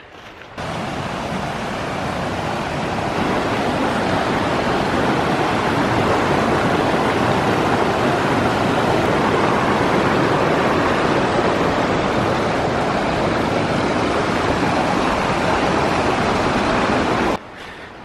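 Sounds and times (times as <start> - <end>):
creek rushing over boulders: 0.0 - 17.4.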